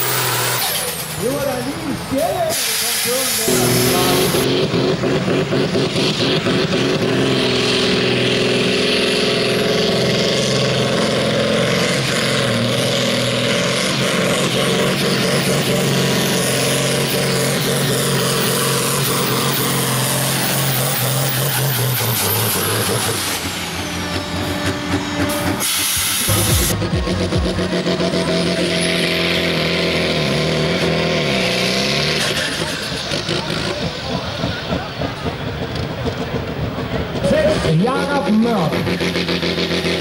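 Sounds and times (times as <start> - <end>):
tractor diesel engine at high revs: 0.0 - 40.0.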